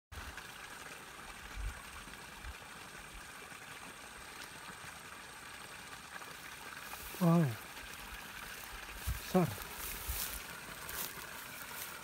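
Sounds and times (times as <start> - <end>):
outdoor background hiss: 0.2 - 12.0.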